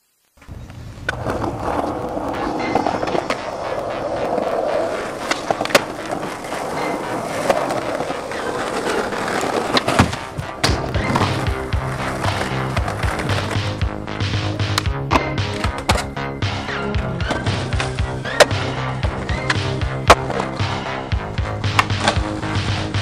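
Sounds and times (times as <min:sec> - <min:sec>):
skateboard wheels rolling on asphalt: 0:00.3 - 0:23.0
music: 0:00.5 - 0:23.0
skateboard clacks: 0:01.0 - 0:23.0.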